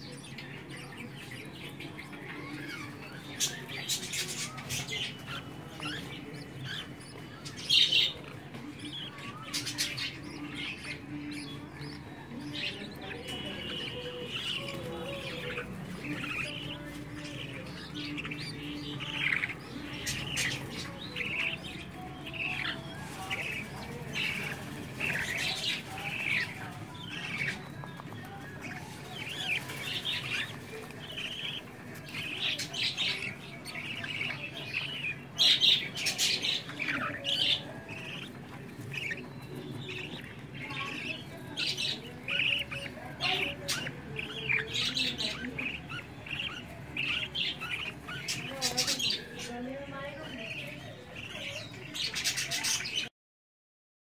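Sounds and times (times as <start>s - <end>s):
budgerigars chirping: 0.0s - 53.1s.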